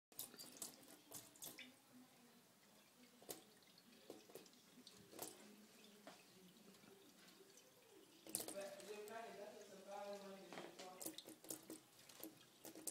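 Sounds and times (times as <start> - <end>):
tap water running into a metal sink: 0.1 - 1.8, 2.6 - 12.9
small water splashes and drips: 0.1 - 12.9.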